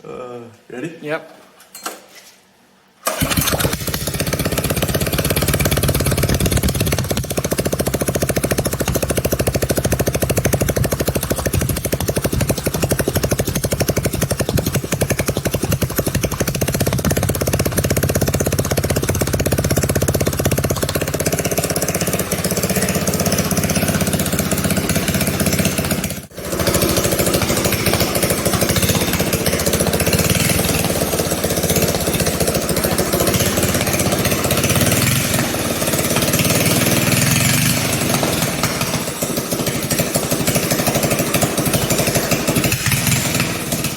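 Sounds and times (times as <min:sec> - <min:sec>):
small engine running under load: 0:03.1 - 0:43.9.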